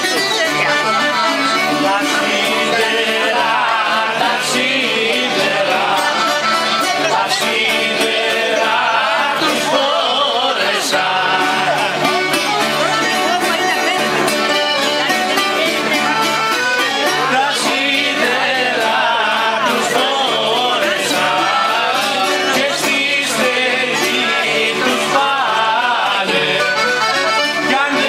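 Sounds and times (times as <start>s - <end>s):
people singing: 0.0s - 28.0s
plucked string instruments: 0.0s - 28.0s.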